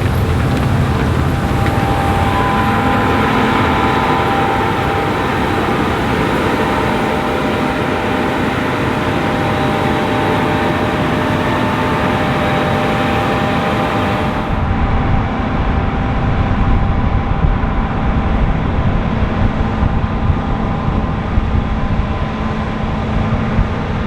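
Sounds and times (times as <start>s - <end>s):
heavy farm machinery running: 0.0s - 23.0s
thin steady whine: 0.0s - 24.0s.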